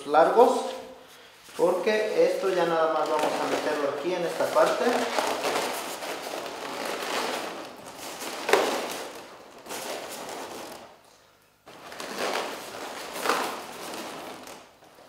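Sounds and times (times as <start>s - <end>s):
balloons rubbing and squeaking: 1.5s - 11.0s, 11.7s - 15.0s.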